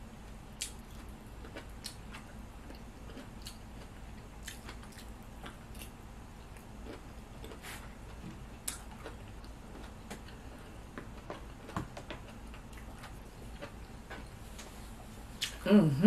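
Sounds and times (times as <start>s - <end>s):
person chewing: 0.5s - 15.6s.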